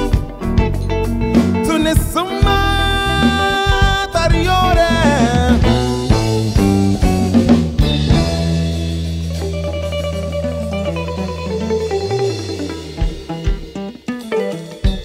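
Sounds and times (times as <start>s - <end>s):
drum kit: 0.0s - 15.0s
electric bass guitar: 0.0s - 15.0s.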